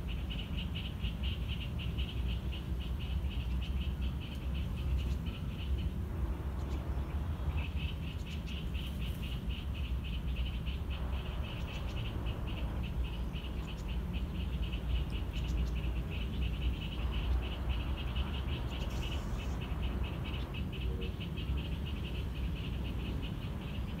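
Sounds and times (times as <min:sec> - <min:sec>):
frogs calling: 0:00.0 - 0:24.0.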